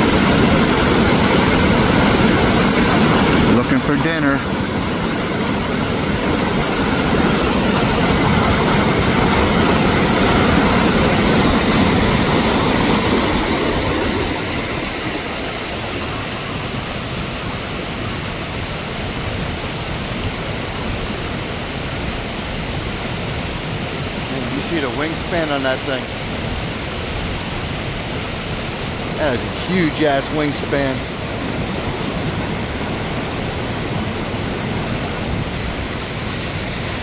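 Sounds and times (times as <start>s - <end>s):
waterfall and rapids rushing: 0.0s - 37.0s.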